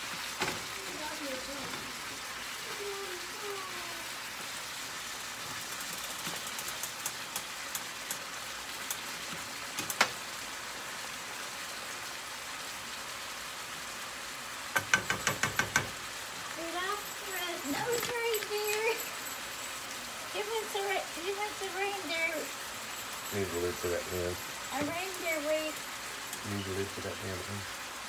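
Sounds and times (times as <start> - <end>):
meat sizzling in a skillet: 0.0 - 28.0.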